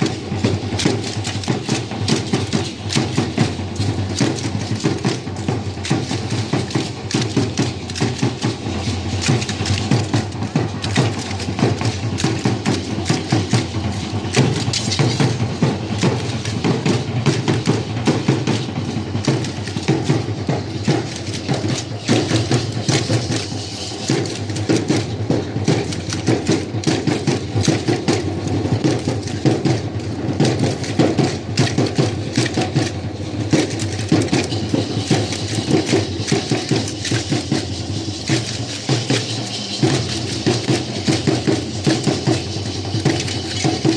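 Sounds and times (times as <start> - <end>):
drum beat: 0.0 - 43.9
percussion music: 0.0 - 43.9
rapid rattling and clicking: 0.0 - 43.9.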